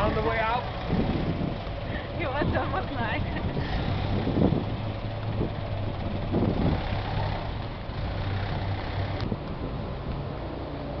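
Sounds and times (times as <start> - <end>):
car engines humming in traffic: 0.0 - 11.0
car passing: 0.0 - 11.0.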